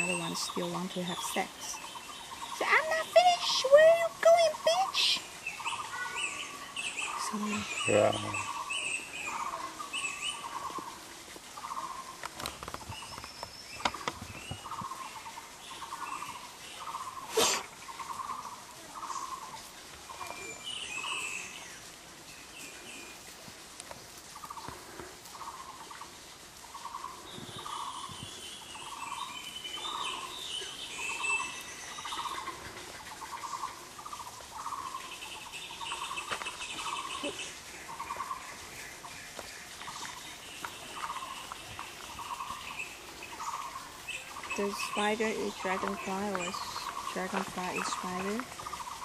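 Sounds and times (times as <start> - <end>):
birds chirping and twittering: 0.0 - 49.0.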